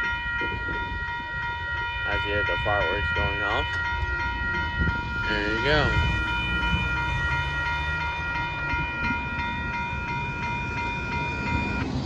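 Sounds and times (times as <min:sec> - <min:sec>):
crossing warning bell ringing: 0:00.0 - 0:12.0
low rumble of train: 0:00.0 - 0:12.0.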